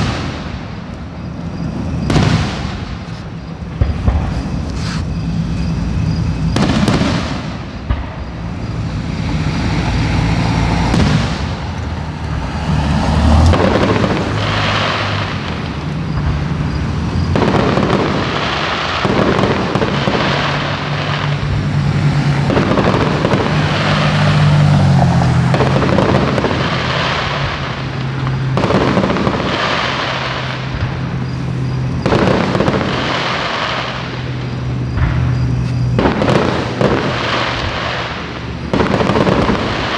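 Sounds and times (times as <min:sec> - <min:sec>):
fireworks booming and crackling: 0:00.0 - 0:39.9.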